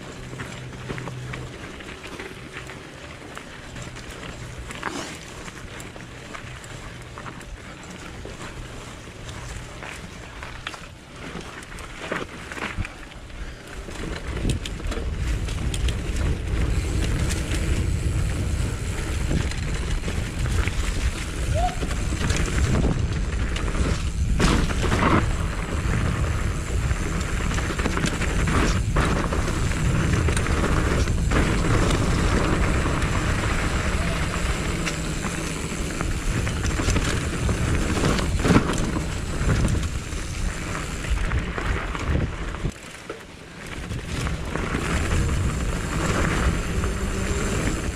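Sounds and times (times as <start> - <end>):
bike knocks and rattles: 0.0 - 47.9
bike tyres rumbling on dirt: 0.0 - 47.9.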